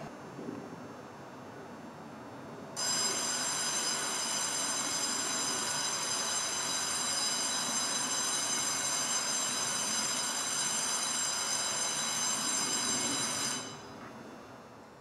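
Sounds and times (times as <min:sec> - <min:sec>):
electric railcar equipment running: 0:02.8 - 0:15.0.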